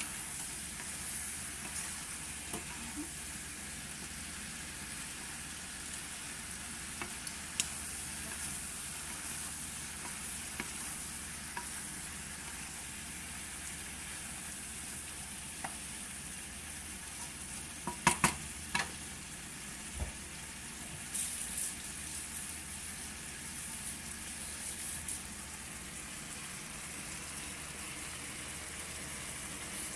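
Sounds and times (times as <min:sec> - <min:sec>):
shrimp sizzling in a frying pan: 0:00.0 - 0:29.9.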